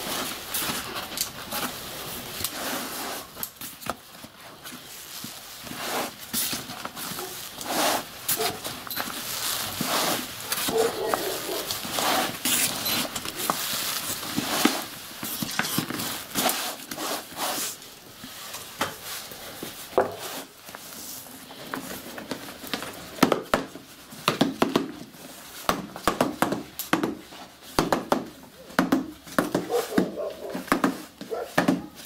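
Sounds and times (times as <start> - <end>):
hands rustling paper: 0.0 - 32.0.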